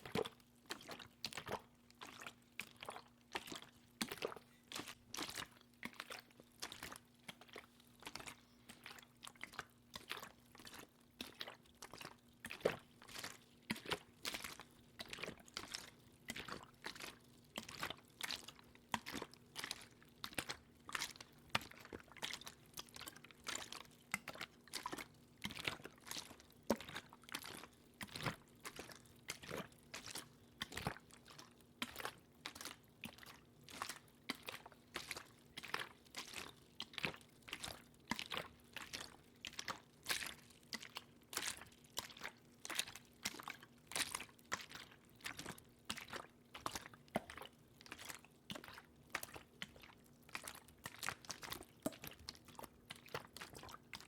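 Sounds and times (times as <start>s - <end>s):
wet water clicks and splashes: 0.0s - 54.0s.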